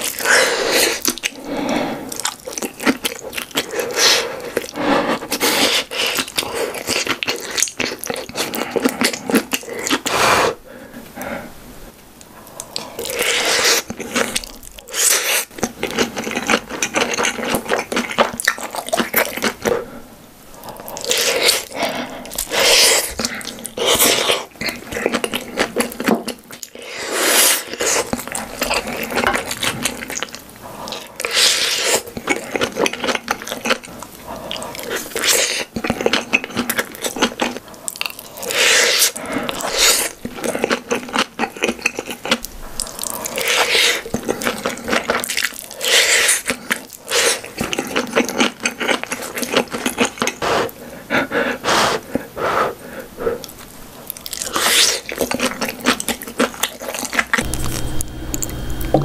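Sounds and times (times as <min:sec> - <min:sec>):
close wet chewing: 0:00.0 - 0:10.6, 0:12.2 - 0:19.9, 0:20.5 - 0:59.0.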